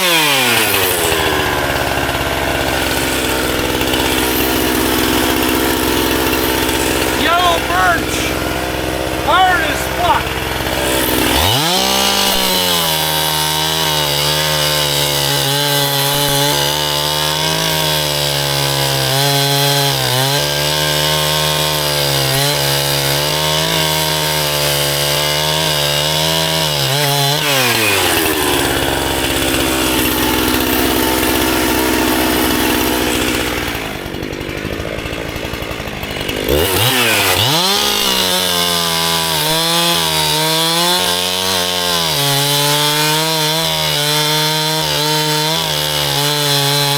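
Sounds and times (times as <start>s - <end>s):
chainsaw cutting firewood: 0.0s - 46.9s.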